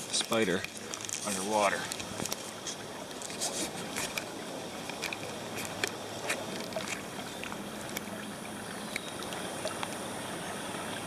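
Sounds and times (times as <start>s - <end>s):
pond water sloshing and trickling: 0.0s - 11.0s.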